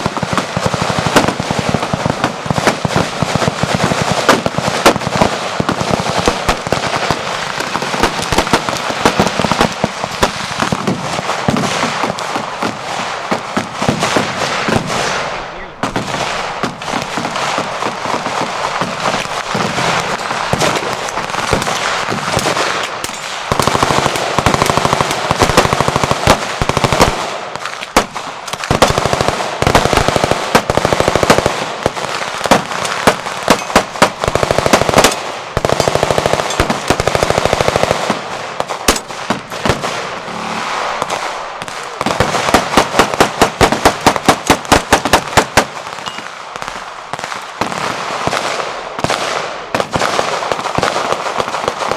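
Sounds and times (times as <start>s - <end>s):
machine gun fire: 0.0s - 46.3s.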